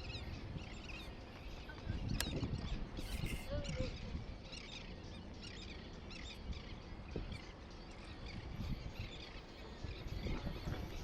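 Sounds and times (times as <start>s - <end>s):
birds chirping: 0.0s - 11.0s
wind rumble on microphone: 0.0s - 11.0s.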